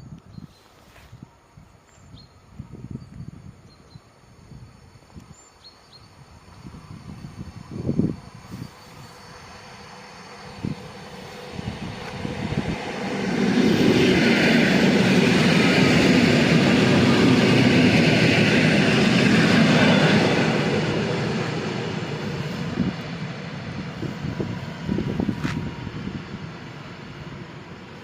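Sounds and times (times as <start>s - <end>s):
electric train passing on rails: 0.0s - 28.0s.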